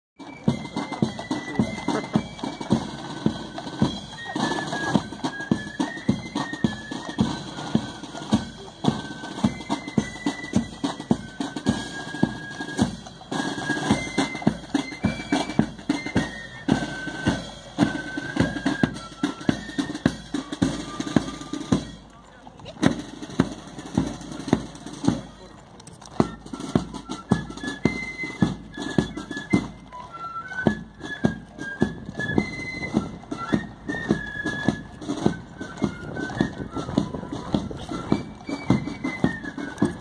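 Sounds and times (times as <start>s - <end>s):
snare and bass drums: 0.2s - 22.1s, 22.7s - 25.5s, 26.1s - 40.0s
fife melody: 0.2s - 40.0s.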